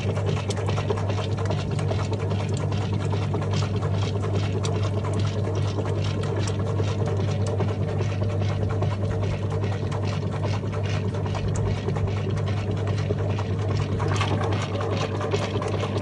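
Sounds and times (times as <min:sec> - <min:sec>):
rapid irregular clicks: 0:00.0 - 0:16.0
washing machine motor hum: 0:00.0 - 0:16.0.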